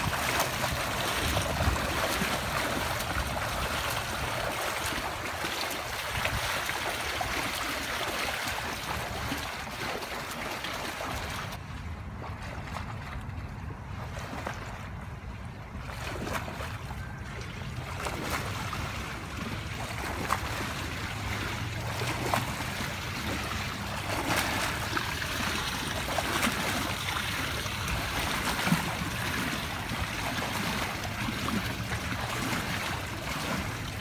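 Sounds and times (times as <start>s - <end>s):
swimmer splashing in a pool: 0.0s - 34.0s.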